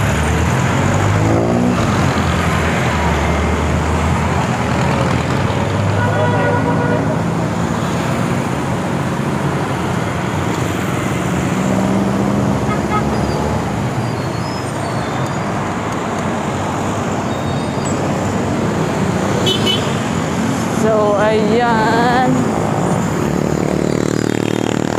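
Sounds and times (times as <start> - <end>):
motorcycles passing: 0.0 - 14.1, 15.6 - 24.9
road noise rush: 0.0 - 24.9.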